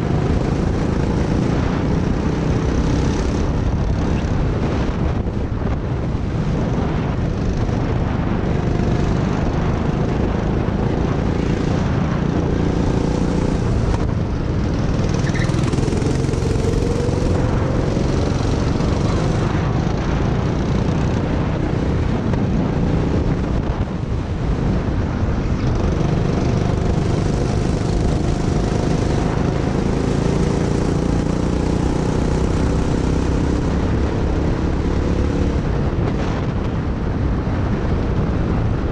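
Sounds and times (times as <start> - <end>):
go-kart engine running hard: 0.0 - 38.9.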